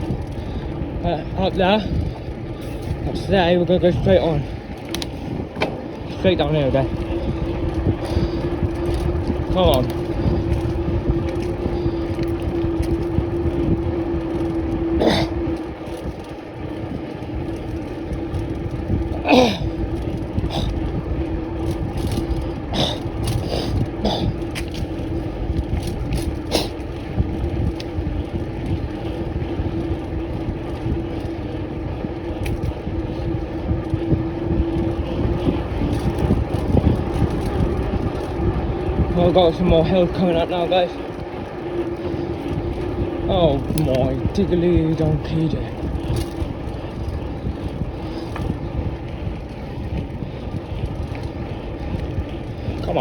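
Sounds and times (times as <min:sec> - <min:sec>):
bicycle knocks and rattles: 0:00.0 - 0:53.0
road rumble under hum: 0:00.0 - 0:53.0
wind noise: 0:00.0 - 0:53.0.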